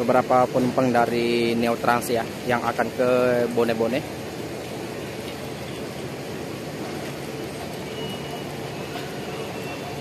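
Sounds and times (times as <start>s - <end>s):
bus diesel engines idling: 0.0s - 10.0s.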